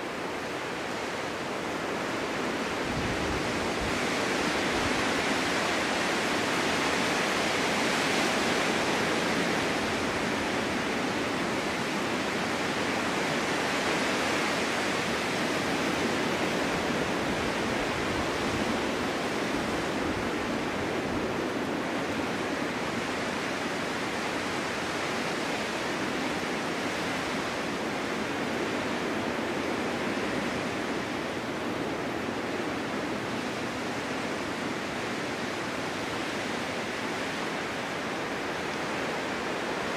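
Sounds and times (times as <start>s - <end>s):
storm wind blowing snow: 0.0s - 39.9s.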